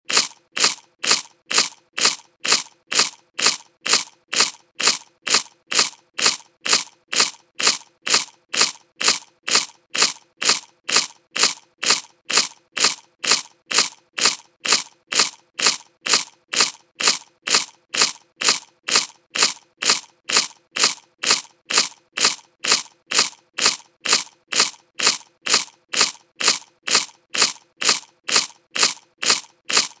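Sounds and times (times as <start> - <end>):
potato chip crunching: 0.0 - 30.0.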